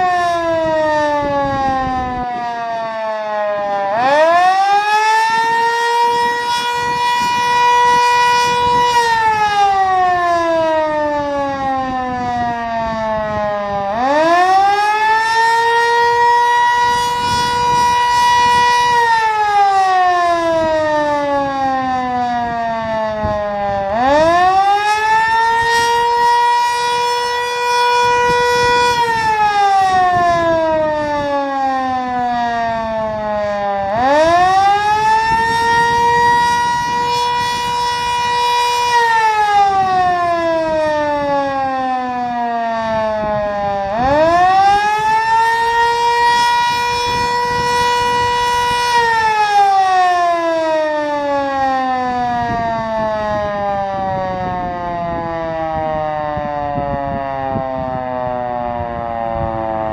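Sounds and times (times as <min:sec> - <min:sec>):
fire siren winding up and down: 0:00.0 - 0:59.9.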